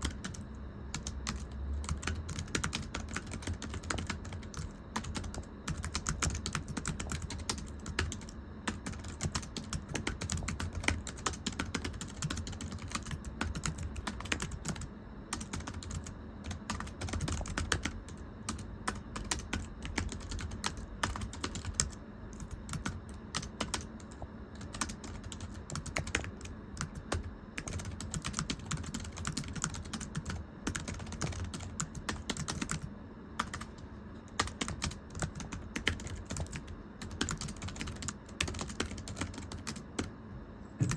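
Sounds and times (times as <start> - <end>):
fast typing on keyboard: 0.0 - 40.1.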